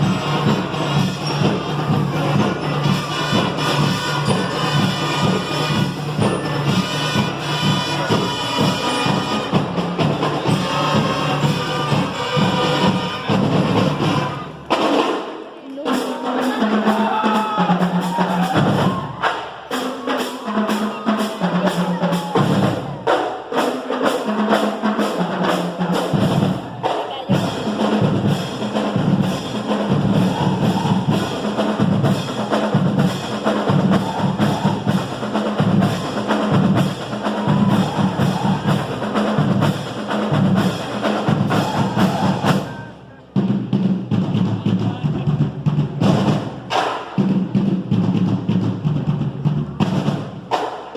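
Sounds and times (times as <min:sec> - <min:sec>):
marching band playing: 0:00.0 - 0:50.9
steady drumbeat: 0:00.0 - 0:50.9.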